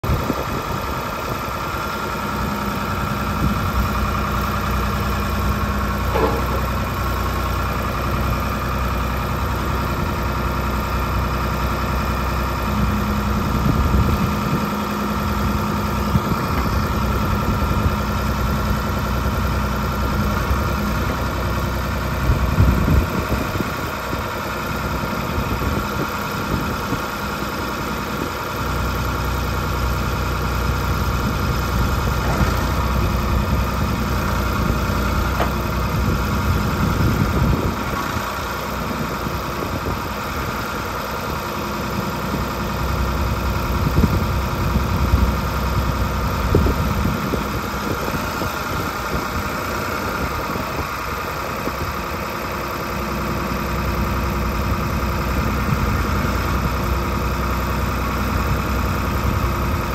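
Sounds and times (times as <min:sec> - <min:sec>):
backhoe engine running: 0:00.0 - 0:59.9.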